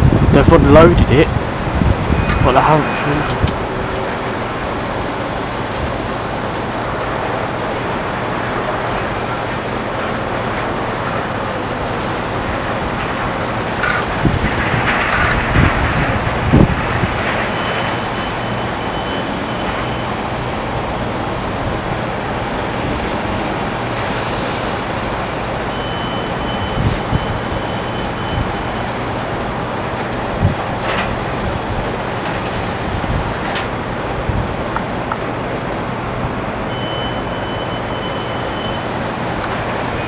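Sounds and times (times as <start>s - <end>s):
hum of airport machinery: 0.0s - 40.0s.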